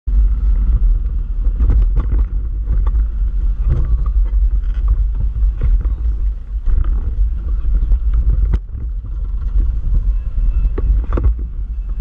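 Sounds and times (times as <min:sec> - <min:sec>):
vehicle engine and road rumble: 0:00.0 - 0:12.0
knocks and rattles over stones: 0:01.4 - 0:10.0, 0:10.7 - 0:12.0.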